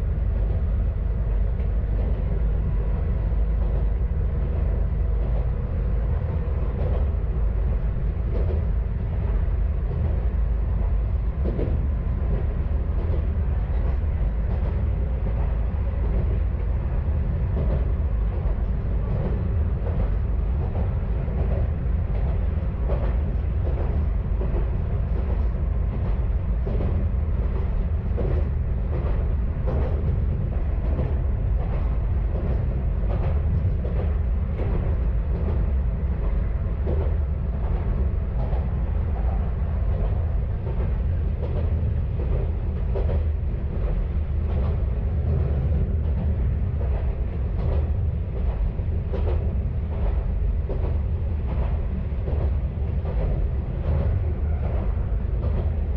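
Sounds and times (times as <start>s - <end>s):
diesel railcar rumble: 0.0s - 55.9s.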